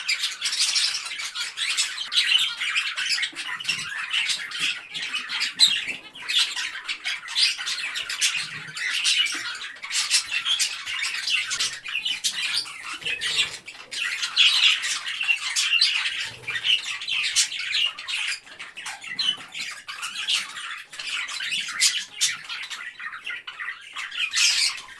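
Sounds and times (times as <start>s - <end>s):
parrots squawking and chattering: 0.0s - 24.9s.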